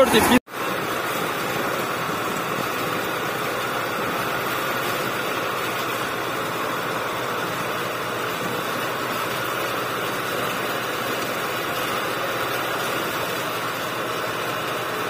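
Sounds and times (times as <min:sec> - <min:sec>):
thresher machine rushing noise: 0:00.0 - 0:14.1.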